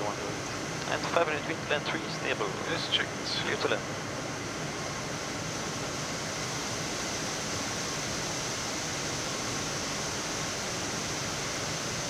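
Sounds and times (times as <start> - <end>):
cockpit airflow hiss: 0.0 - 12.0.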